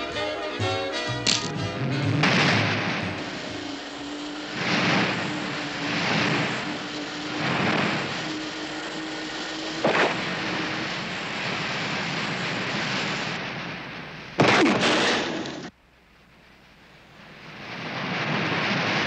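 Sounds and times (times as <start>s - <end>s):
cartoon water-skiing rushing hiss: 0.1s - 15.7s.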